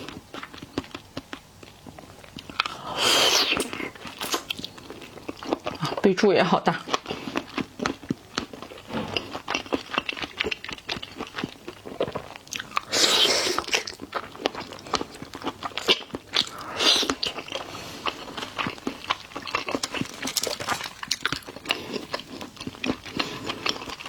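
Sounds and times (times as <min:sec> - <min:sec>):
wet chewing and mouth clicks: 0:00.0 - 0:05.9, 0:06.8 - 0:24.0.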